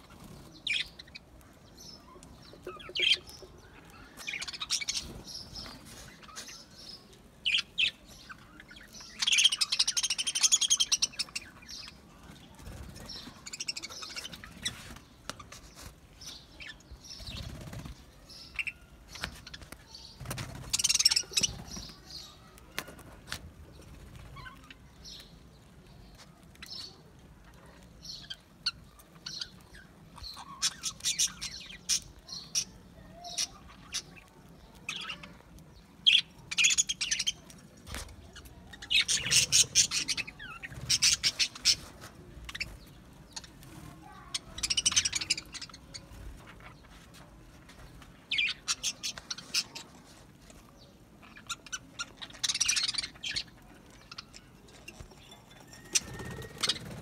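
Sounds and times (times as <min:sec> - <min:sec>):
budgerigars chirping and chattering: 0:00.0 - 0:22.8, 0:23.7 - 0:47.2, 0:47.8 - 0:57.0.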